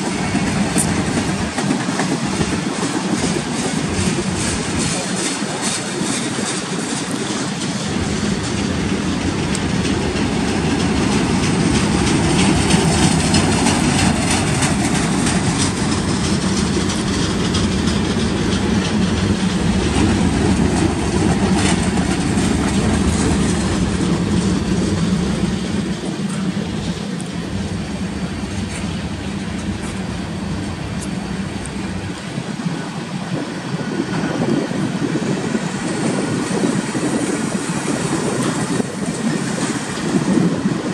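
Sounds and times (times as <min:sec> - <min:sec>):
train wheels rumbling on rail: 0:00.0 - 0:40.9
wheels clickety-clack over track: 0:00.0 - 0:40.9.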